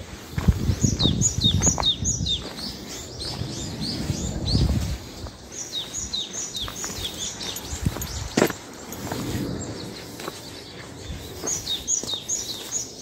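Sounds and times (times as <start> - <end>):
footsteps on dirt path: 0.0 - 13.0
bird chirping: 0.8 - 13.0.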